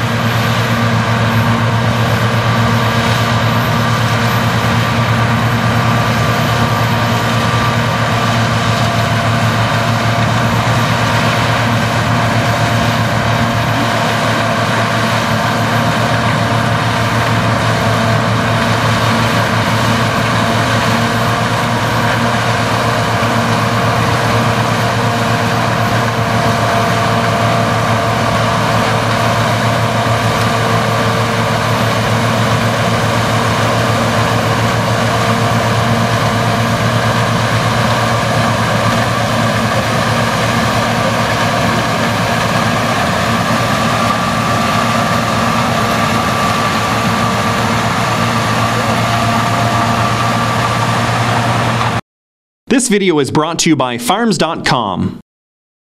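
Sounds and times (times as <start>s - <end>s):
low engine hum: 0.0s - 52.0s
machinery whining: 0.0s - 52.0s.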